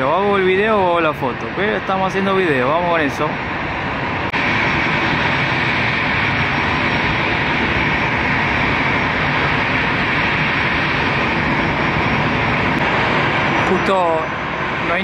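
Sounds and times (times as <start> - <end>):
jet engines at low power: 0.0 - 15.0.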